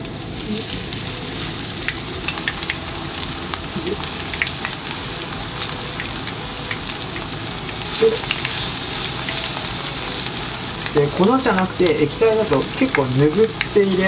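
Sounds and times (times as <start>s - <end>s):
chicken frying in hot oil: 0.0s - 14.0s
oil crackling and popping: 0.0s - 14.0s.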